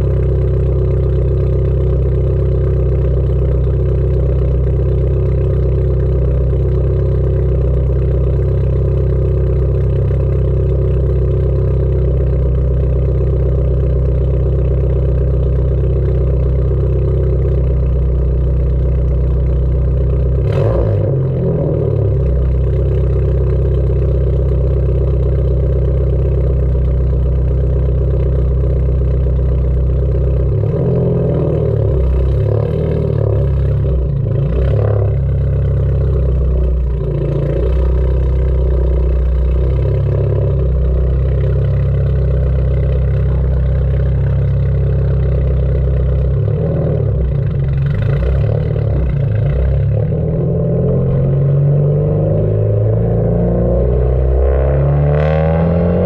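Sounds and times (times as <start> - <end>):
car engine idling exhaust: 0.0 - 56.0.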